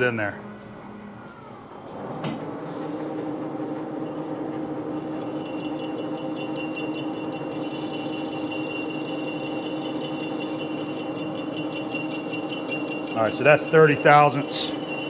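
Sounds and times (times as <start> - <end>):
lathe whine: 0.0 - 15.0
lathe humming: 2.4 - 15.0.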